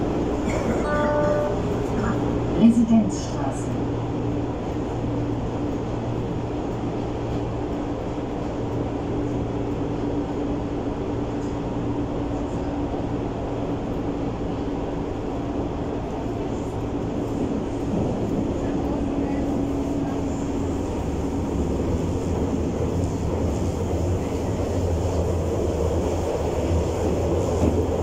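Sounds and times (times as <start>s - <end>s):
constant low hum: 0.0s - 28.0s
wheels rumbling on rail: 0.0s - 28.0s.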